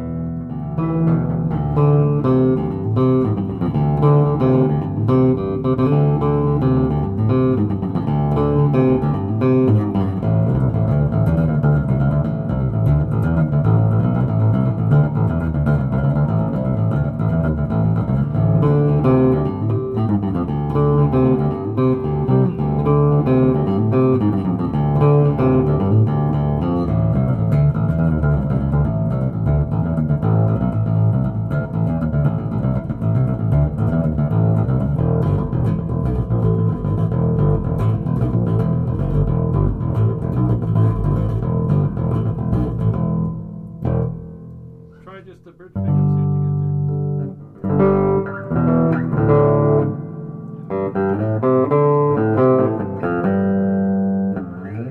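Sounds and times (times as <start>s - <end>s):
plucked electric bass notes: 0.0s - 54.9s.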